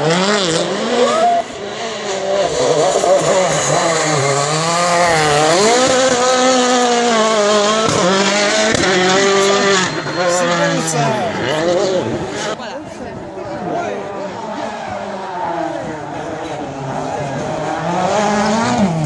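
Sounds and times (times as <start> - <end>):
rally car engine revving: 0.0 - 19.0
second rally car engine: 0.0 - 19.0.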